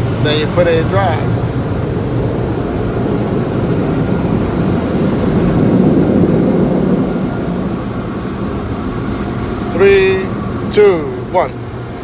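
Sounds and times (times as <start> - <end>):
car wash air dryers blowing: 0.0 - 12.0.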